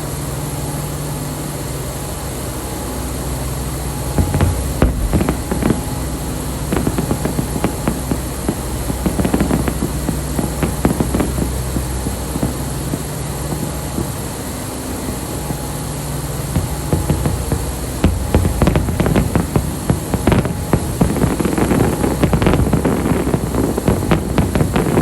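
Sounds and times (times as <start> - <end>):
steady low hum: 0.0 - 25.0
fireworks bangs and crackling pops: 3.5 - 25.0.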